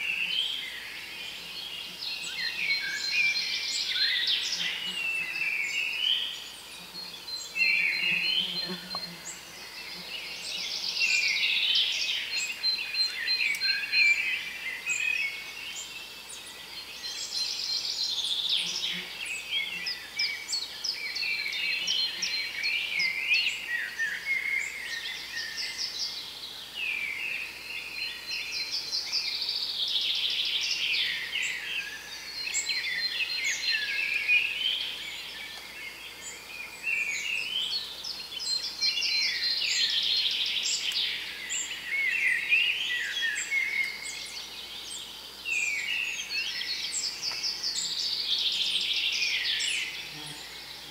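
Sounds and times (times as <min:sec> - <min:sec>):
songbirds singing: 0:00.0 - 0:50.9.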